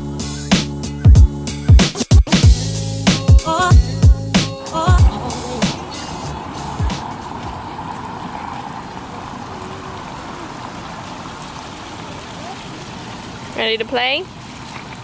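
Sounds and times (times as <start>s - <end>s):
water jets spraying onto ground: 2.4s - 15.0s.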